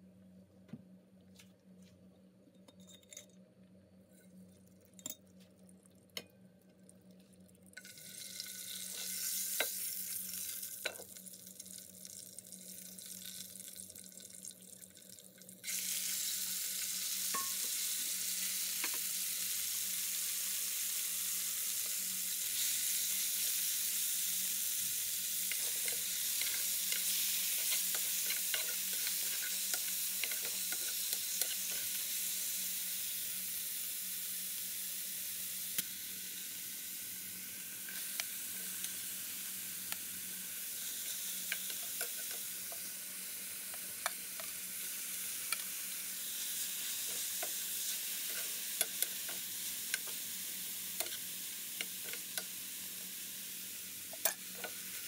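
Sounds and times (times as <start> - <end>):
chicken sizzling in oil: 7.8 - 55.0.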